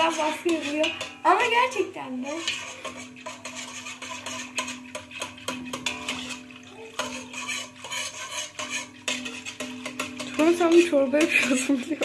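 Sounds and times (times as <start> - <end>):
whisk clinking in metal pot: 0.0 - 12.0.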